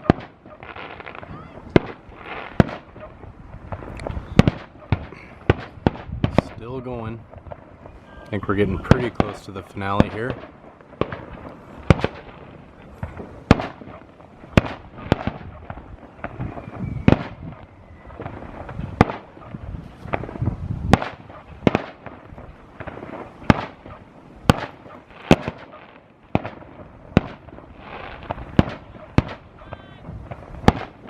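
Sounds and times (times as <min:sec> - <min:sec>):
fireworks bangs: 0:00.0 - 0:31.0
fireworks rumbling and crackling: 0:00.0 - 0:31.0.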